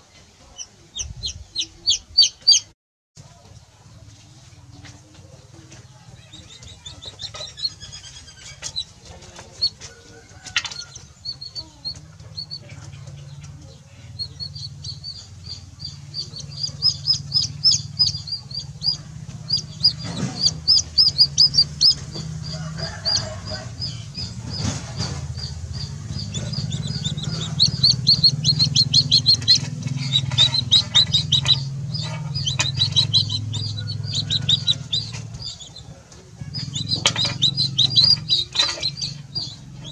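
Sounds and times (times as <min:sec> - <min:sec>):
chick peeping: 0:00.0 - 0:02.7, 0:03.4 - 0:39.9
low steady hum: 0:03.7 - 0:39.9.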